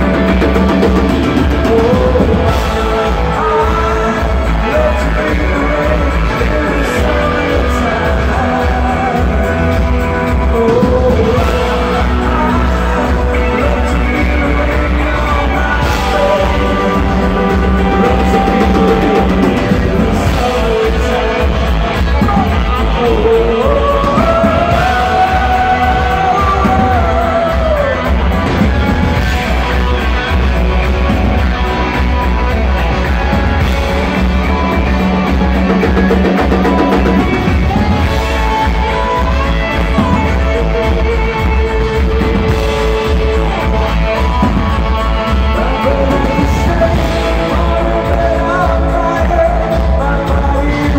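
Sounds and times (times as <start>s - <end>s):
drums: 0.0s - 50.9s
electric guitar: 0.0s - 50.9s
man singing: 0.0s - 50.9s.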